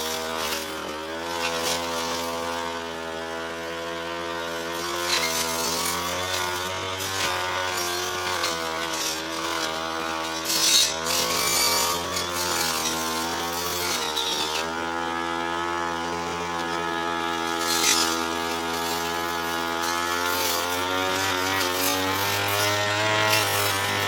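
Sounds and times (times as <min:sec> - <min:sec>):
blade cutting grass hiss: 0:00.0 - 0:03.6, 0:04.3 - 0:24.0
brush cutter engine running: 0:00.0 - 0:24.0.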